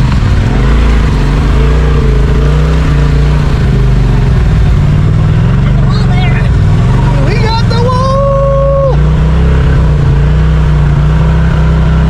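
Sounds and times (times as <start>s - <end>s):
utility vehicle engine under load: 0.0s - 12.0s.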